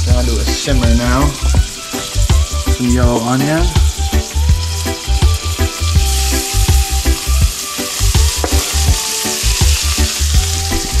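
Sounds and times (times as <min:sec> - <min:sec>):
music with deep bass beat: 0:00.0 - 0:11.0
onion sizzling in pan: 0:00.0 - 0:11.0.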